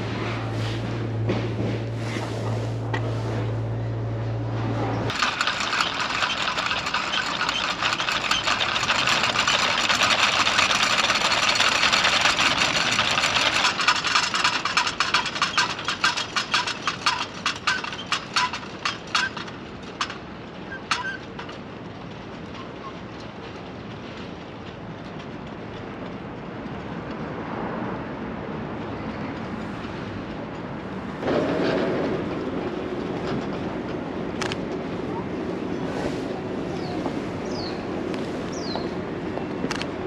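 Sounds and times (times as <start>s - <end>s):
wheels clicking over rail joints: 5.0s - 27.3s, 28.8s - 40.0s.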